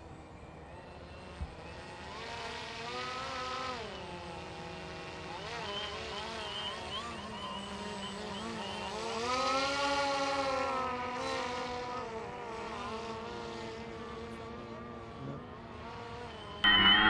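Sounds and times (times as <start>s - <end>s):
model airboat motors buzzing: 0.7s - 16.7s.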